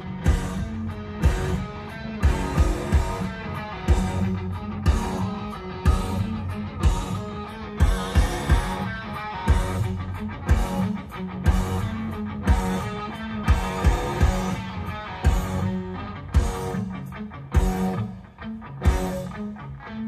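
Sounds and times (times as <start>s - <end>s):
heavy beat: 0.0s - 18.1s, 18.8s - 19.4s
rock music with guitar: 0.0s - 20.0s.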